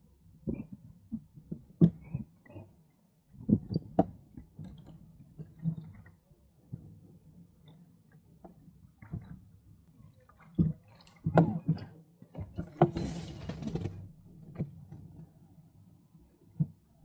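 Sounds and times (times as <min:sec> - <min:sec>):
water lapping against a hull: 0:00.2 - 0:17.0.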